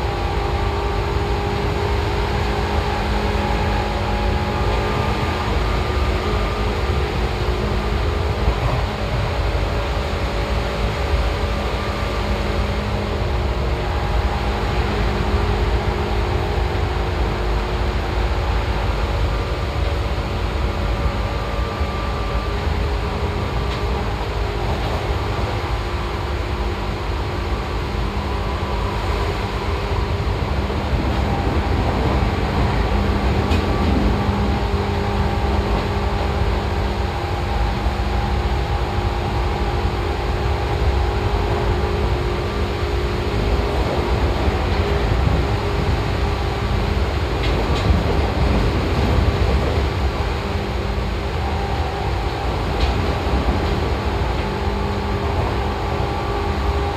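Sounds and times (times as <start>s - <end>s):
electric train drive whine: 0.0s - 56.9s
wheels rumbling on rail: 0.0s - 56.9s.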